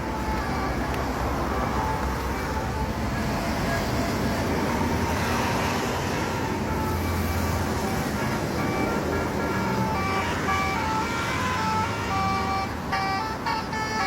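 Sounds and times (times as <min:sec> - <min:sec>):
bus engine rumble: 0:00.0 - 0:14.0
road traffic: 0:00.0 - 0:14.0.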